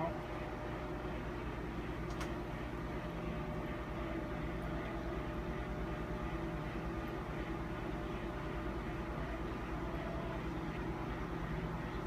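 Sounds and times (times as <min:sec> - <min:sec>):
motorised gantry humming: 0:00.0 - 0:12.0.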